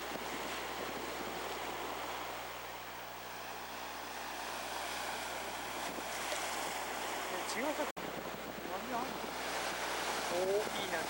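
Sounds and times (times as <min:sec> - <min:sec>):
ocean waves breaking: 0:00.0 - 0:11.0
wind: 0:00.0 - 0:11.0.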